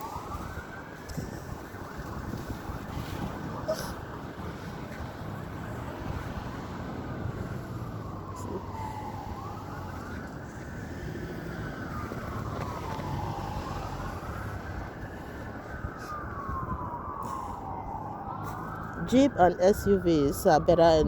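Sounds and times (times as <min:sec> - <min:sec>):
emergency siren wailing: 0:00.0 - 0:21.0
low rumble of traffic: 0:00.0 - 0:21.0.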